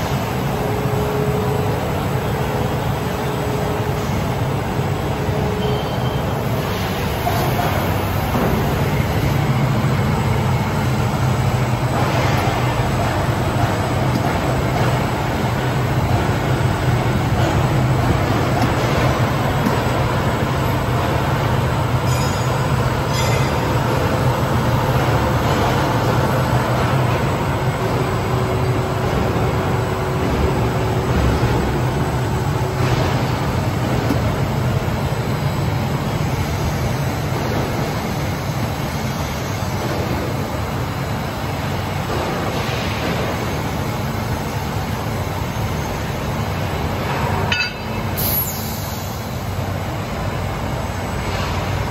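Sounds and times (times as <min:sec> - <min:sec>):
factory machinery humming: 0:00.0 - 0:51.9.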